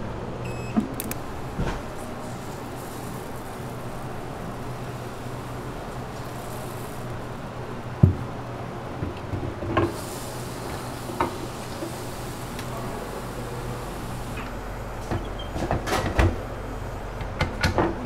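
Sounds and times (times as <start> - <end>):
equipment hum: 0.0 - 18.0.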